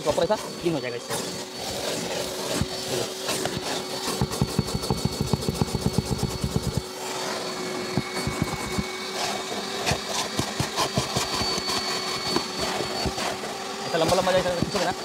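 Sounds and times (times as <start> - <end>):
nozzle scraping carpet: 0.0 - 15.0
vacuum cleaner humming: 0.0 - 15.0.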